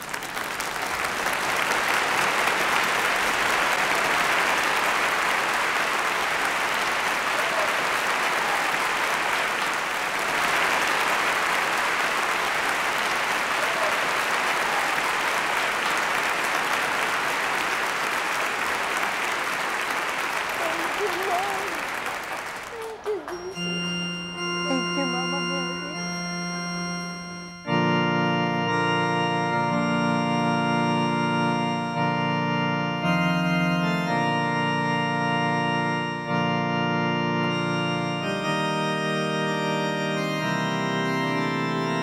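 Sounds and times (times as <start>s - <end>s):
congregation applauding: 0.0s - 42.0s.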